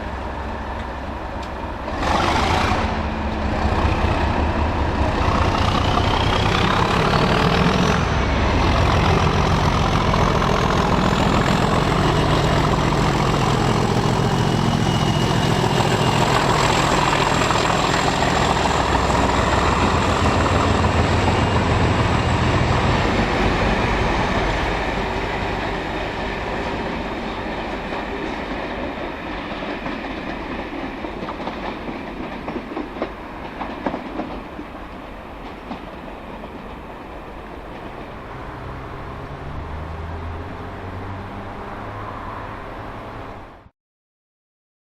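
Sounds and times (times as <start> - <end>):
diesel locomotive engine working hard: 0.0 - 39.8.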